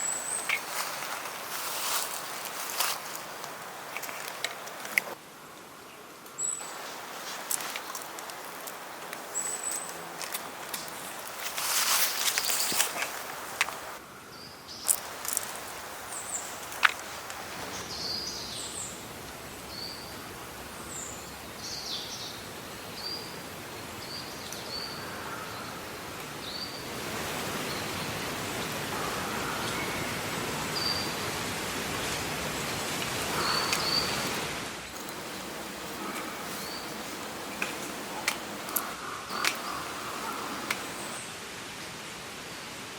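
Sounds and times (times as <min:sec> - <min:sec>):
birds chirping: 0:00.0 - 0:05.2, 0:06.4 - 0:25.8, 0:26.4 - 0:41.3
steady hiss: 0:00.0 - 0:14.0, 0:14.7 - 0:42.9.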